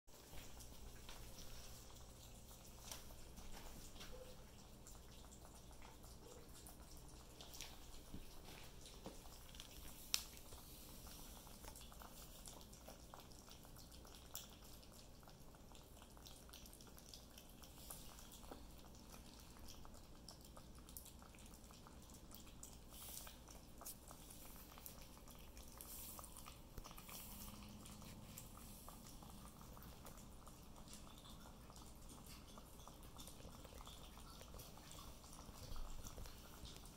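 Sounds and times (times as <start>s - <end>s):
puppies lapping and smacking: 0.1s - 36.9s.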